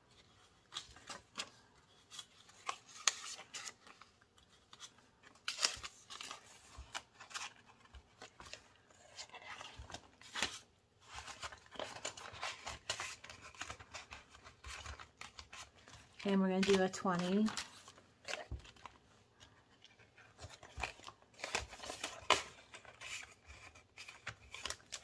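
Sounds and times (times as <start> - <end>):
paper bills rustling and crinkling: 0.1 - 25.0.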